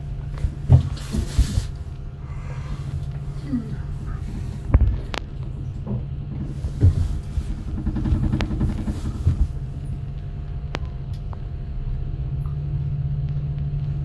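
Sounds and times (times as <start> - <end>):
lift hum and rumble: 0.0 - 14.0.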